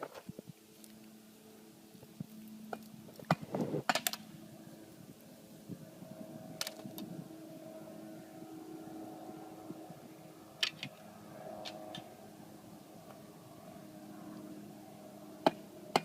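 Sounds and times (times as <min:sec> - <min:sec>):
faint engine hum: 0:00.0 - 0:16.0.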